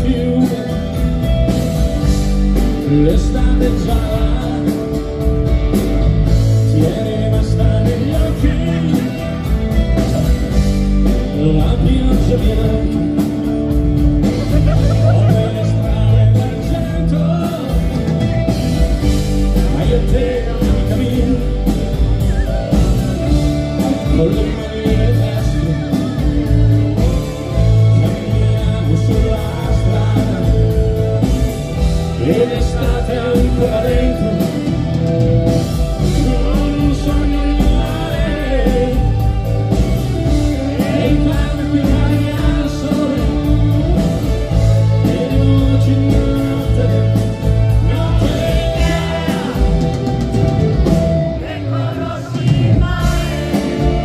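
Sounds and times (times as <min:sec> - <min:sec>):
live rock band: 0:00.0 - 0:54.0
man singing: 0:00.0 - 0:54.0.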